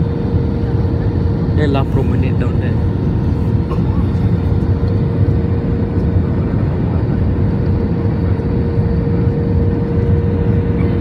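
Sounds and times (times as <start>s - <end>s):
jet engines and airflow rushing: 0.0s - 11.0s
mid-pitched cabin hum: 0.0s - 11.0s.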